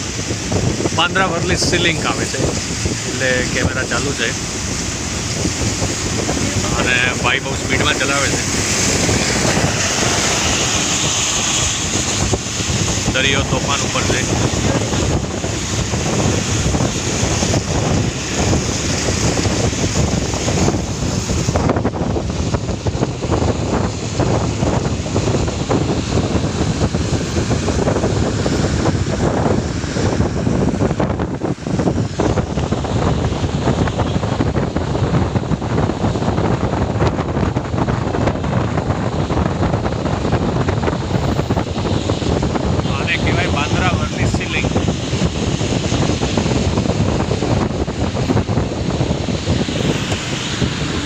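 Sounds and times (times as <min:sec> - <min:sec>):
car road noise: 0:00.0 - 0:51.0
wind buffeting microphone: 0:00.0 - 0:51.0.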